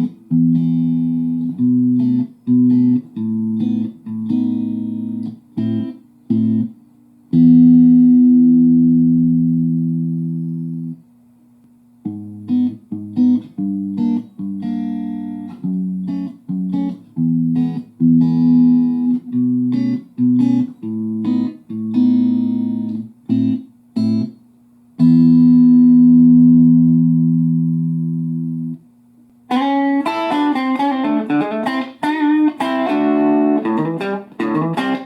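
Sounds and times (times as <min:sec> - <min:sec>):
electric guitar chords and notes: 0:00.0 - 0:06.7, 0:07.3 - 0:11.0, 0:12.0 - 0:24.4, 0:25.0 - 0:28.8, 0:29.5 - 0:35.0.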